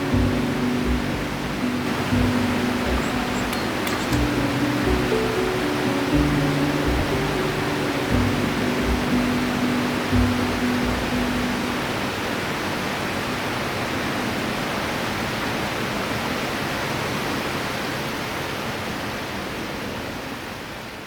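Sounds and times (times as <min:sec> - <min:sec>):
river flowing: 0:00.0 - 0:21.0.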